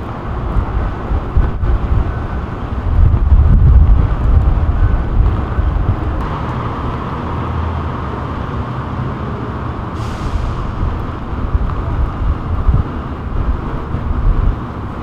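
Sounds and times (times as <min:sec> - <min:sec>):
street traffic: 0:00.0 - 0:15.0
wind gusting on microphone: 0:00.0 - 0:15.0.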